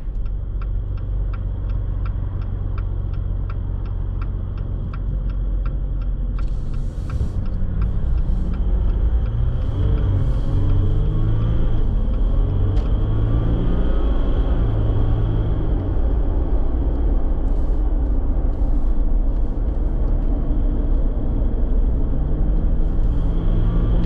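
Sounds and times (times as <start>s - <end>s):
car engine rumble: 0.0s - 24.0s
turn signal ticking: 0.0s - 24.0s.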